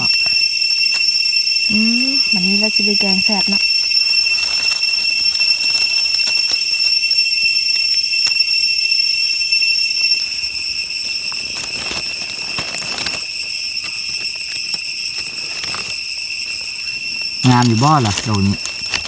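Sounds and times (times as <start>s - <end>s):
insect chorus: 0.0s - 19.0s
hands rustling in dry leaves: 1.7s - 8.4s, 10.2s - 19.0s.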